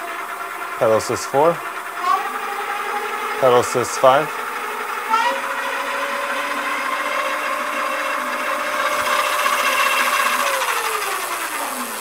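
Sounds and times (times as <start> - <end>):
electric motor whine: 0.0 - 12.0
spinning wheel and chain whirring: 0.0 - 12.0.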